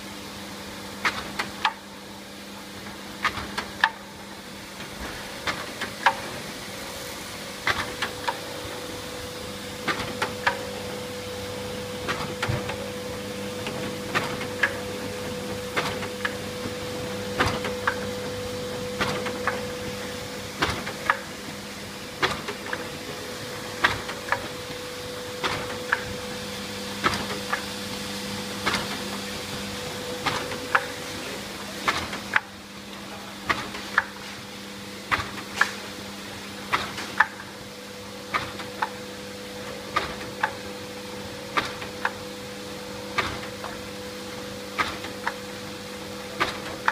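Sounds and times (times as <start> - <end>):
laminator machine hum: 0.0 - 46.9.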